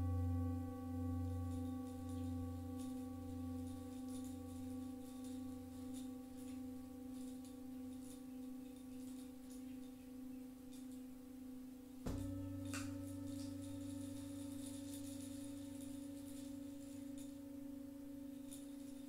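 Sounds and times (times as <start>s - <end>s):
singing bowl struck: 0.0s - 8.6s, 12.1s - 19.0s
singing bowl ringing: 0.0s - 19.0s.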